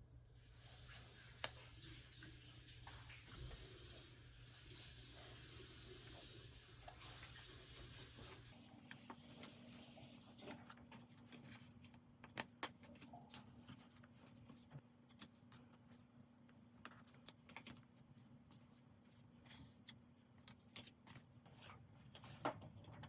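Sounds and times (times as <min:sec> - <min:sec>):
paper and stickers handled: 0:00.4 - 0:23.0.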